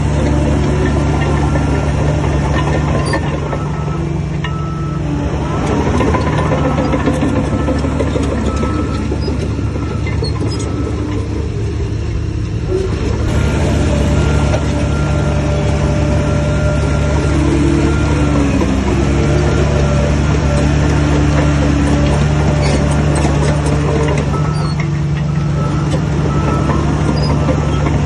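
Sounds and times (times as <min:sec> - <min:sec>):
heavy diesel machine engine droning: 0:00.0 - 0:28.0.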